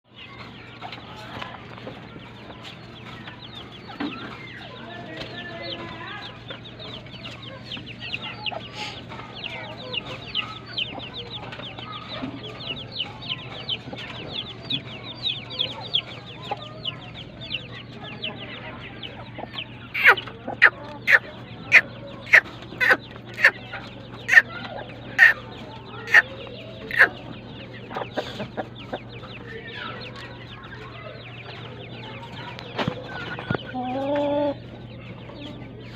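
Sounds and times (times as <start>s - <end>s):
steady low hum: 0.1s - 35.9s
bird calling: 2.2s - 35.9s.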